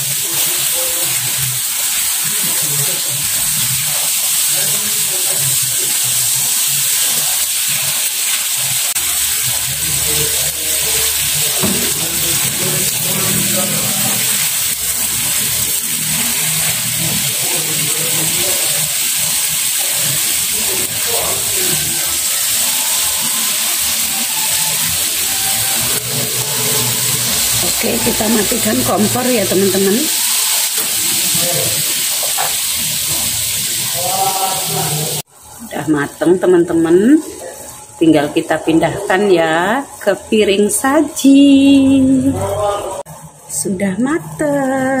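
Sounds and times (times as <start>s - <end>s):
food sizzling in a frying pan: 0.0s - 45.0s.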